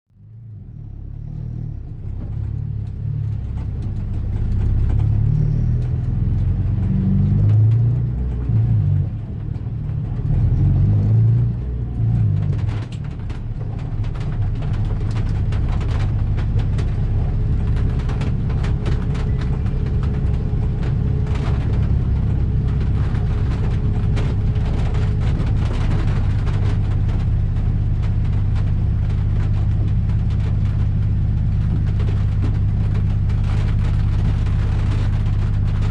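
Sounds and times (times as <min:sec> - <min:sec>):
car engine rumble: 0:00.1 - 0:35.9
heavy rain striking a car: 0:01.8 - 0:35.9.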